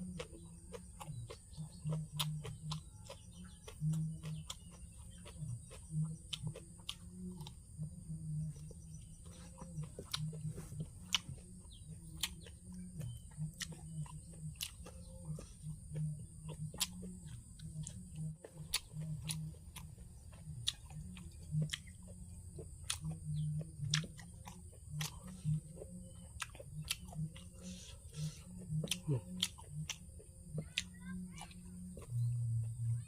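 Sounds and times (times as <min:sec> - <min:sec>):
low hum: 0:00.0 - 0:33.0
person chewing food: 0:00.0 - 0:33.0.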